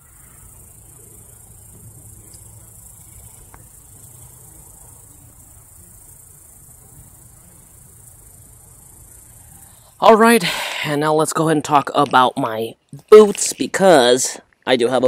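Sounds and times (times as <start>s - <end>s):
insects chirping chorus: 0.0s - 15.0s.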